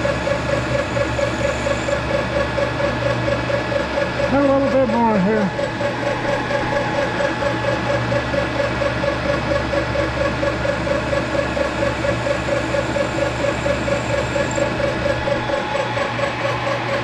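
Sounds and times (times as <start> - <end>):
metal lathe gears humming and whining: 0.0 - 17.0.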